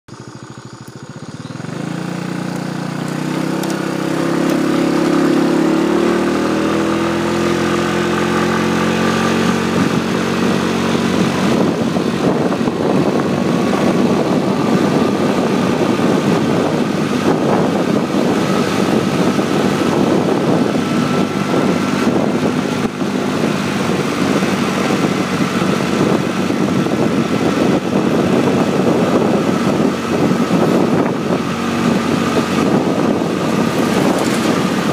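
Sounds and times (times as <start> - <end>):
small motorbike engine accelerating: 0.1 - 34.9
wind noise on microphone: 1.0 - 34.9.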